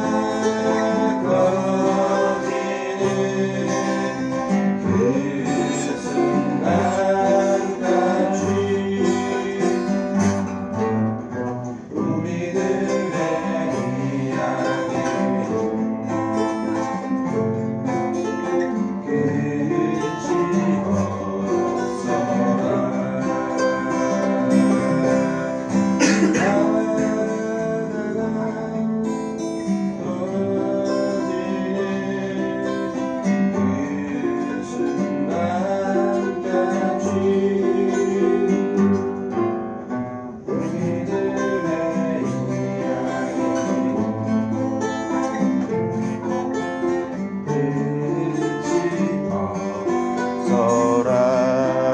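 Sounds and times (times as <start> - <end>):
strummed acoustic guitar: 0.0 - 51.9.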